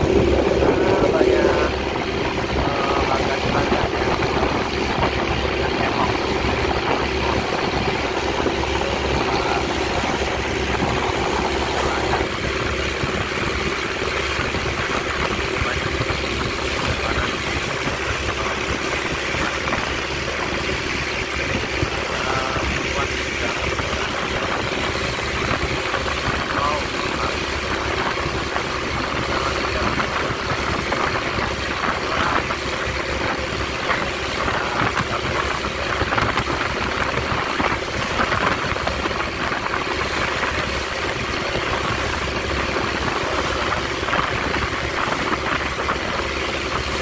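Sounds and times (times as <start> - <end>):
boat engine running: 0.0 - 47.0
water splashing along hull: 0.0 - 47.0.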